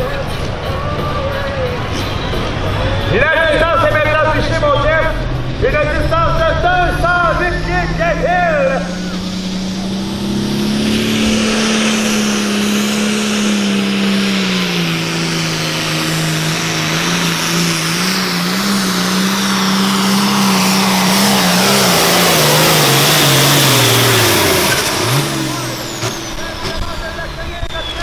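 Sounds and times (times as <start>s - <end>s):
tractor diesel engine running flat out: 0.0s - 28.0s.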